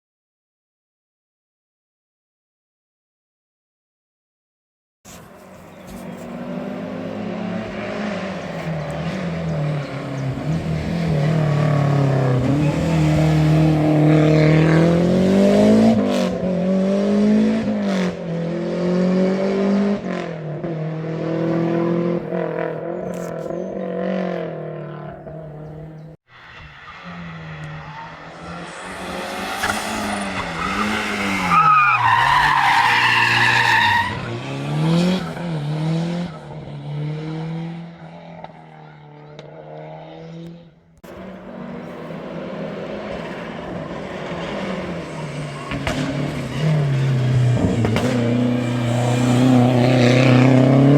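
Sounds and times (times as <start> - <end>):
rally car engine revving: 5.1 - 50.9.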